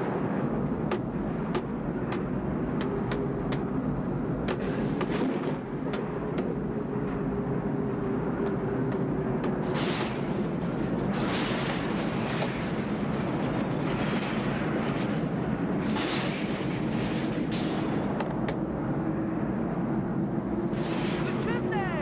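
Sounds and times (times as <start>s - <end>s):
hissing wind gusts: 0.0s - 22.0s
low wavering howl: 0.0s - 22.0s
storm wind roaring: 0.0s - 22.0s.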